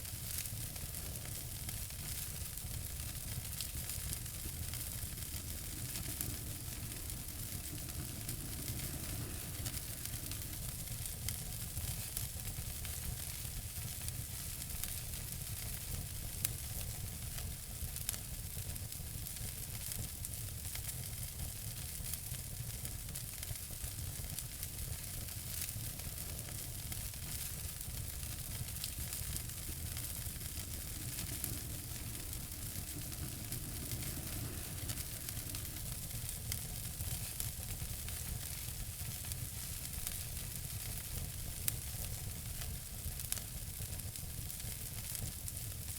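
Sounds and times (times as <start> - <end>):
wood fire crackling: 0.0 - 45.9
sharp fire pops: 0.1 - 18.2, 19.4 - 45.8.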